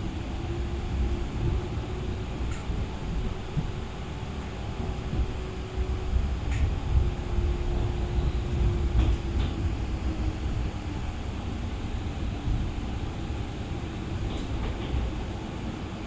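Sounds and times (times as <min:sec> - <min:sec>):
tram rumbling and humming: 0:00.0 - 0:16.0.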